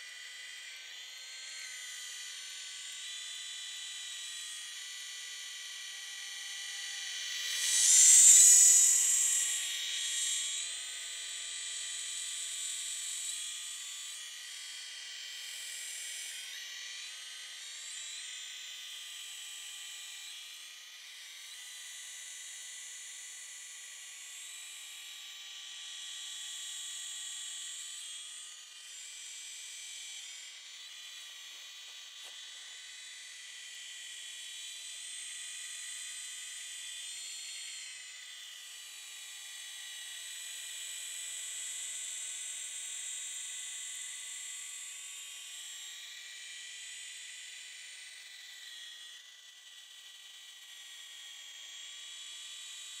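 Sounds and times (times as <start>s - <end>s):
model helicopter motor whine: 0.0s - 53.0s.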